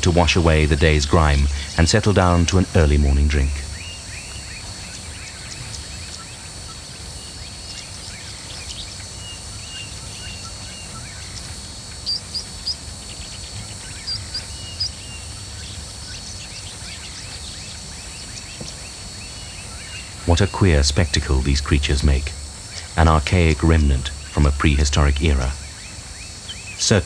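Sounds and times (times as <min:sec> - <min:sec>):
low outdoor background hum: 0:00.0 - 0:27.0
small birds chirping: 0:00.0 - 0:27.0.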